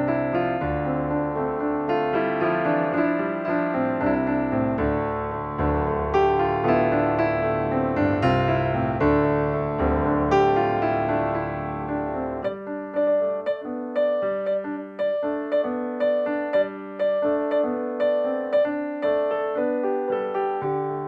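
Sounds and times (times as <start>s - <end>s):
piano-like keyboard melody: 0.0s - 21.0s.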